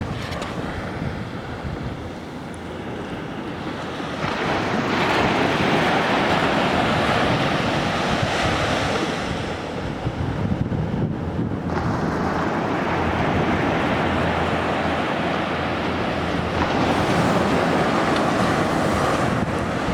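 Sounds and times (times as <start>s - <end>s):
sea waves washing ashore: 0.0s - 19.9s
wind rumble on microphone: 0.0s - 19.9s.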